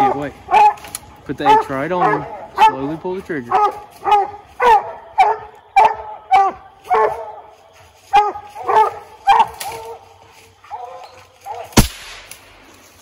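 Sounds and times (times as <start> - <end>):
dogs barking: 0.0 - 11.8.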